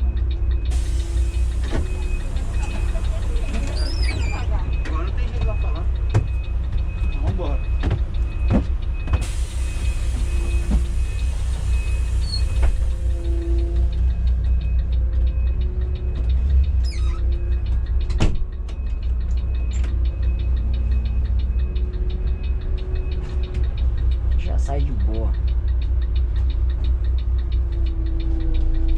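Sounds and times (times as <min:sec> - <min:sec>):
diesel engine droning: 0:00.0 - 0:28.9.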